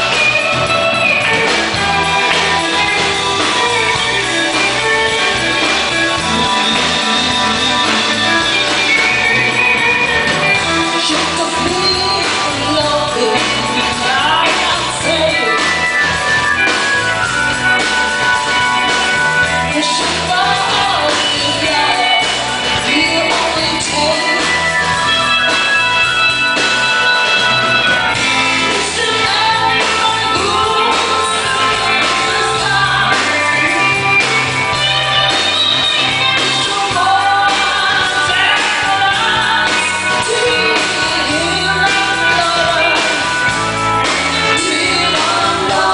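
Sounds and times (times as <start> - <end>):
guitar: 0.0 - 45.9
live rock band playing: 0.0 - 45.9
person singing: 0.0 - 45.9.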